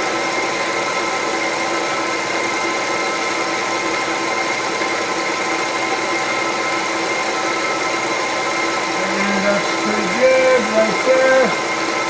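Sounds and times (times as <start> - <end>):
milling machine running: 0.0 - 12.0.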